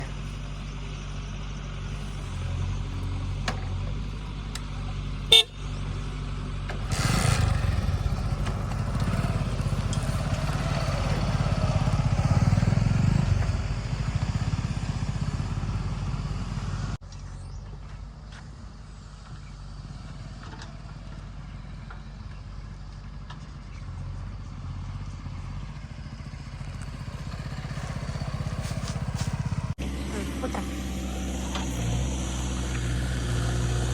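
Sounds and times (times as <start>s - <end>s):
diesel engine of heavy machinery: 0.0s - 33.9s.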